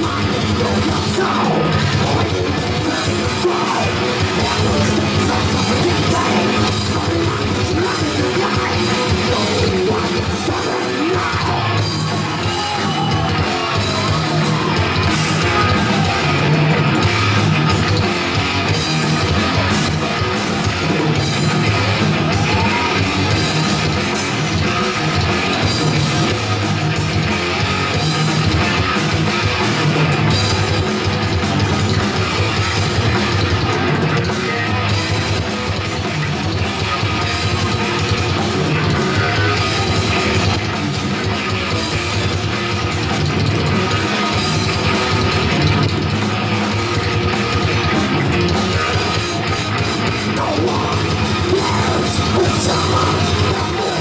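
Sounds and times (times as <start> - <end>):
distorted electric guitars: 0.0 - 54.0
drum kit: 0.0 - 54.0.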